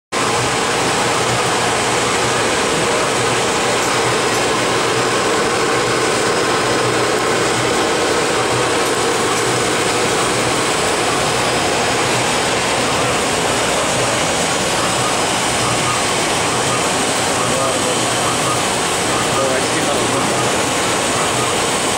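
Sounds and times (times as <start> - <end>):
machinery running: 0.1 - 21.9.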